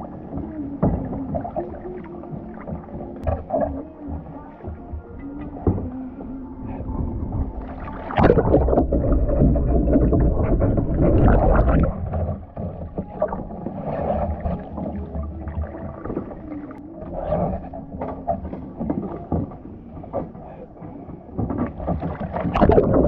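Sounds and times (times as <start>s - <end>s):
paddle strokes in water: 0.0s - 23.0s
water splashing against kayak hull: 0.0s - 23.0s.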